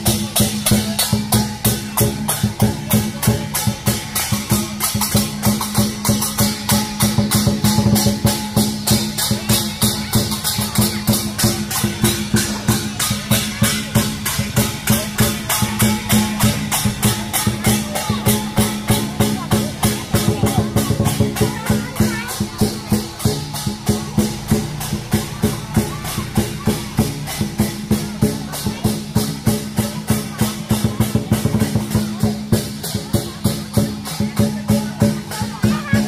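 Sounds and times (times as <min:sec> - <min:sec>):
cymbals clashing: 0:00.0 - 0:36.0
drum beating: 0:00.0 - 0:36.0.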